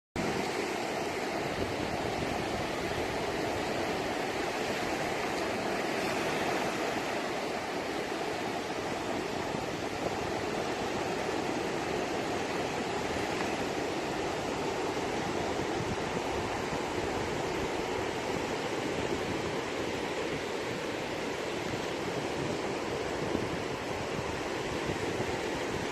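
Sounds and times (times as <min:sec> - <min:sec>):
waves rushing on shore: 0:00.2 - 0:25.9.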